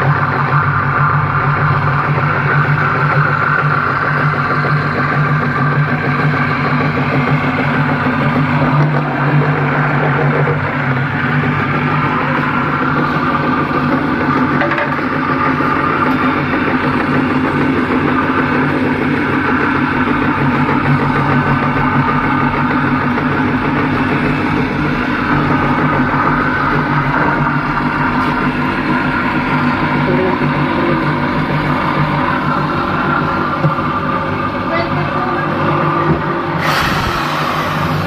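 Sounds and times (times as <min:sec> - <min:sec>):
motor generator humming: 0:00.0 - 0:38.0.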